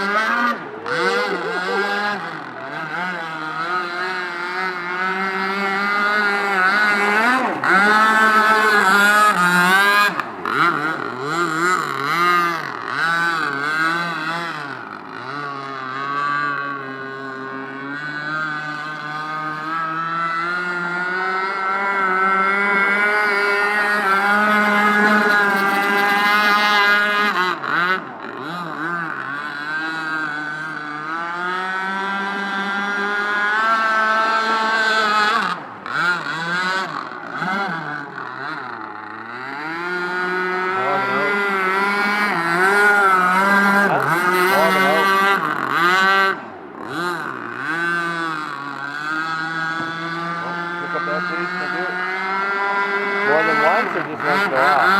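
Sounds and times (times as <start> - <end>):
model boat engine buzzing: 0.0 - 54.9.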